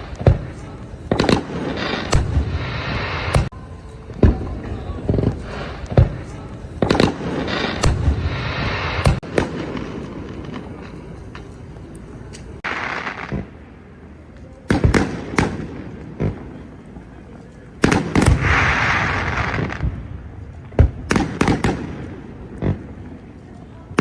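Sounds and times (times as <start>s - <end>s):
fireworks hissing crackle: 0.0s - 24.0s.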